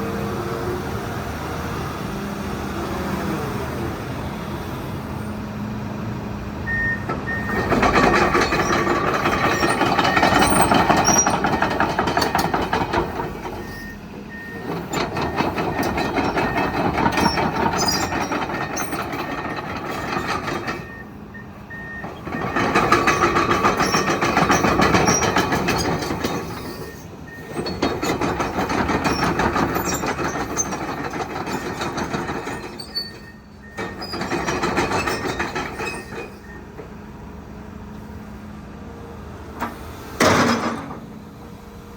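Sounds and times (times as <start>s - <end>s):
excavator engine and hydraulics: 0.0s - 41.9s.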